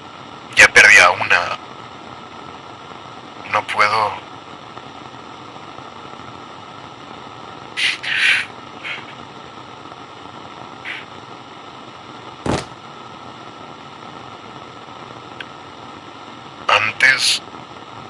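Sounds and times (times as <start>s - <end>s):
walkie-talkie static hiss: 0.0s - 18.0s.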